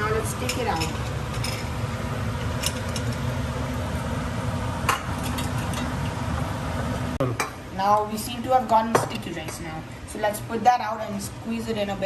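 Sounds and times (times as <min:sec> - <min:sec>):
kitchen hum: 0:00.0 - 0:12.0.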